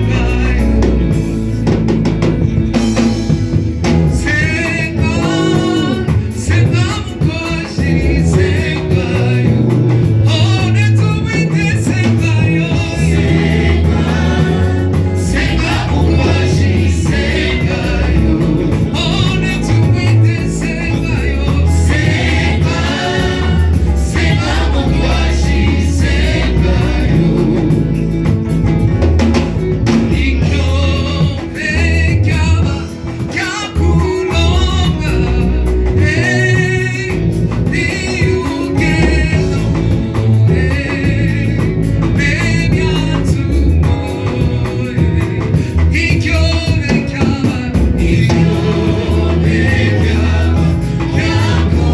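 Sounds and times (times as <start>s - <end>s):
hymn sung over a band: 0.0s - 1.8s, 3.8s - 28.5s, 29.7s - 51.9s
heavy bass line: 0.0s - 51.9s.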